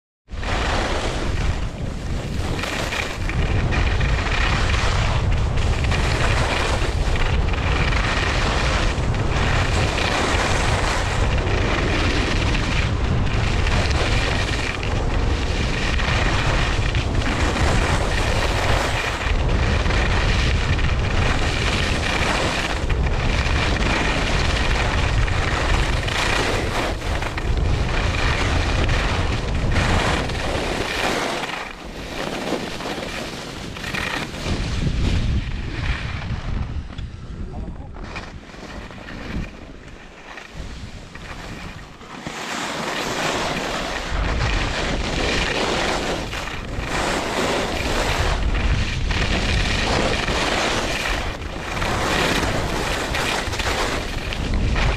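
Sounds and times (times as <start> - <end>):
skis scraping on snow: 0.3 - 54.9
wind buffeting microphone: 0.3 - 54.9.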